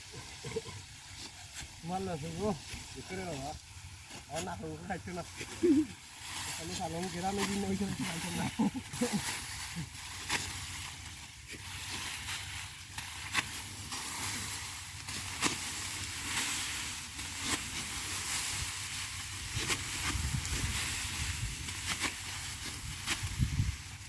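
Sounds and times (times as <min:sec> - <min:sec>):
dry stalks rustling: 0:00.0 - 0:24.0
sickle snapping rice stalks: 0:00.1 - 0:24.0.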